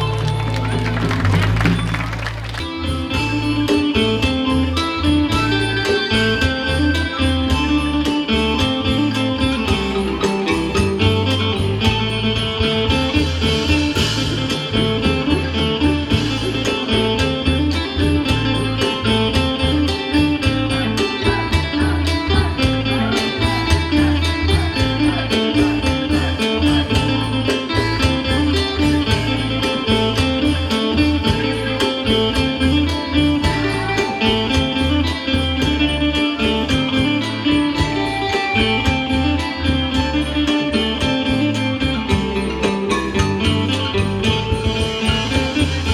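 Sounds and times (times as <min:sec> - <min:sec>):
plucked string melody: 0:00.0 - 0:45.9
repeating bass figure: 0:00.0 - 0:45.9
steady percussion beat: 0:00.0 - 0:45.9
wooden xylophone: 0:00.0 - 0:45.9.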